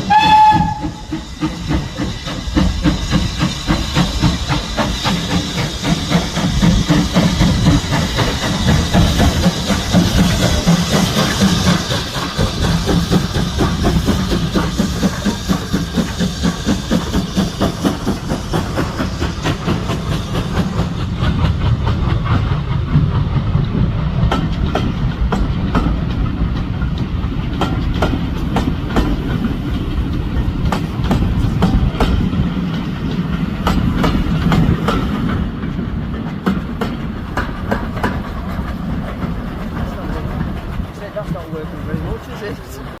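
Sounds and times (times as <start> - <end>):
steam locomotive hissing and chuffing: 0.0 - 43.0
train rumble: 0.0 - 43.0
wheels clacking over rail joints: 0.0 - 43.0.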